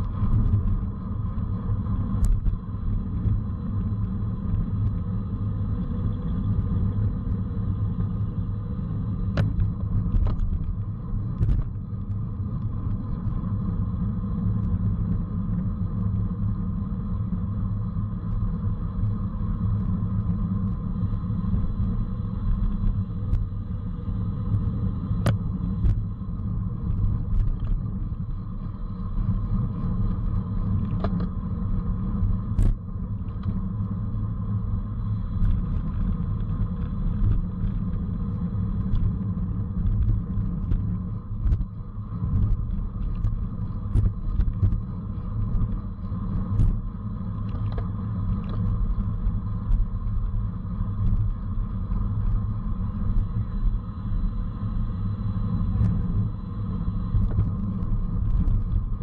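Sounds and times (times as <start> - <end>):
road noise: 0.0 - 59.0
wind rumble: 0.0 - 59.0.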